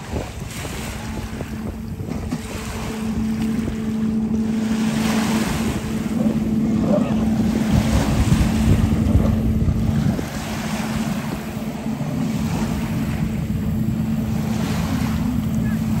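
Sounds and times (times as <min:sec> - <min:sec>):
jet ski engine running: 0:00.0 - 0:16.0
wind buffeting microphone: 0:00.0 - 0:16.0.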